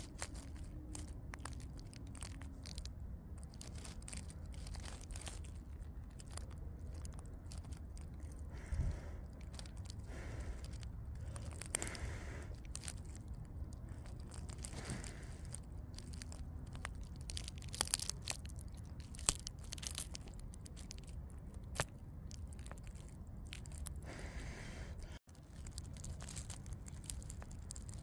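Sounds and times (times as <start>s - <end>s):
rustling and crackling: 0.0s - 28.0s
steady low rumble: 0.0s - 28.0s.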